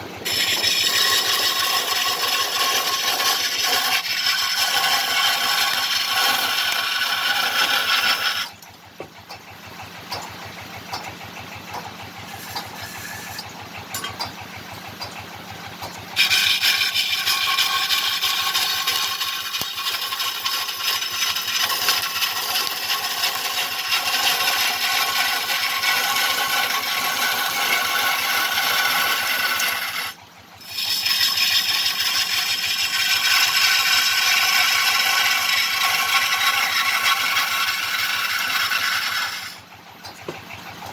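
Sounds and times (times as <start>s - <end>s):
chisel cutting spinning wood: 0.0s - 13.8s, 14.5s - 40.9s
wood lathe turning: 0.0s - 13.8s, 14.8s - 40.9s.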